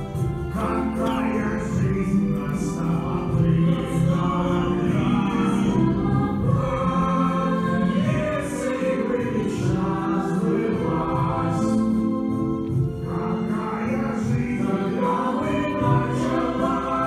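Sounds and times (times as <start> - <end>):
choir singing long notes: 0.0 - 17.0.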